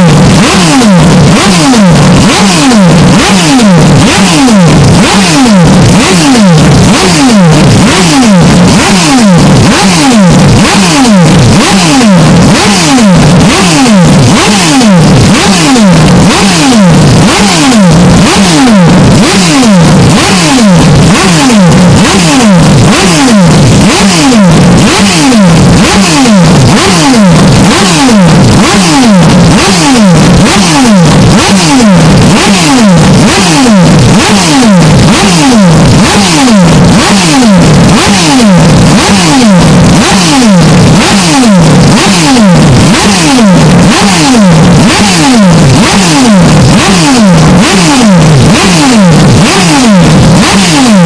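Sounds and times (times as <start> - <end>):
distorted race car engine: 0.0 - 51.0.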